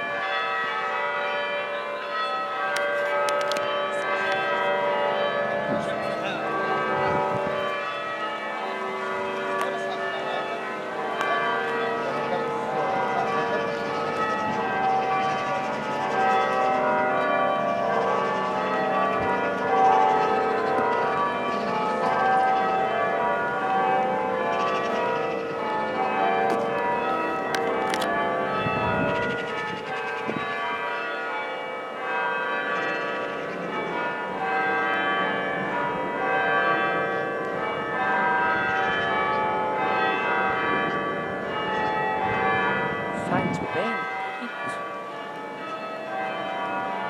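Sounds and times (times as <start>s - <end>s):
church bells ringing changes: 0.0s - 47.0s.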